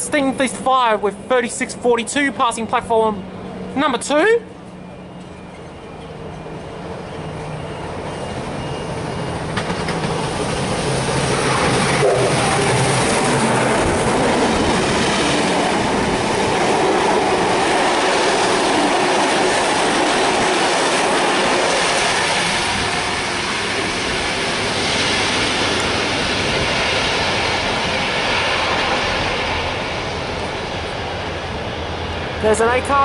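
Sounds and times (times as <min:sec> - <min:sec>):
train wheels on rails: 0:04.5 - 0:31.6.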